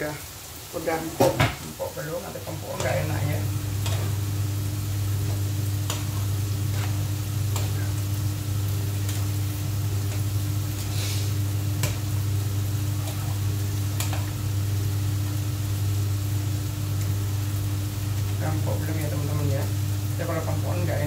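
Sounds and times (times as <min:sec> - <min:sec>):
cooking sizzle: 0:00.0 - 0:21.0
steady low hum: 0:01.8 - 0:21.0.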